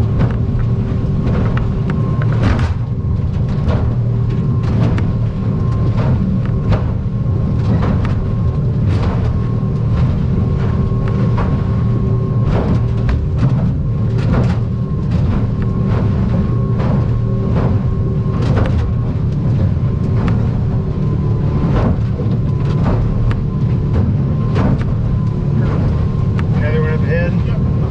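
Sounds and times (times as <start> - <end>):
outboard engine drone: 0.0 - 27.9
waves slapping boat hull: 0.0 - 27.9.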